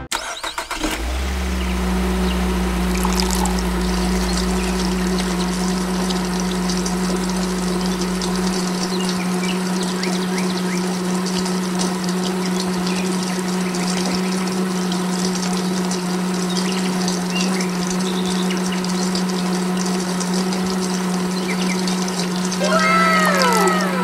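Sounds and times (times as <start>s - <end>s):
electric water pump humming: 0.5s - 24.0s
water flowing and splashing: 1.0s - 24.0s.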